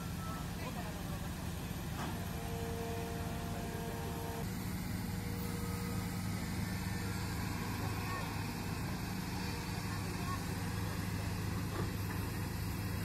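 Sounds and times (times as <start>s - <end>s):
excavator diesel engine drone: 0.0s - 13.0s.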